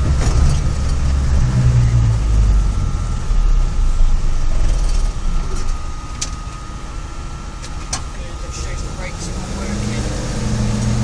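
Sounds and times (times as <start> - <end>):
faint steady whine: 0.0 - 11.0
fan low rumble: 0.0 - 11.0
truck engine running: 0.0 - 11.0.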